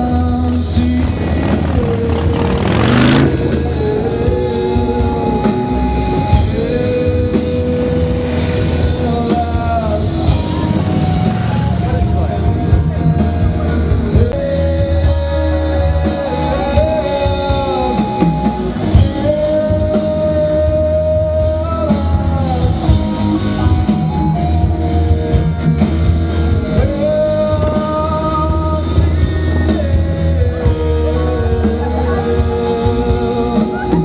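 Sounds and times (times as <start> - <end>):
rock band playing: 0.0 - 34.0.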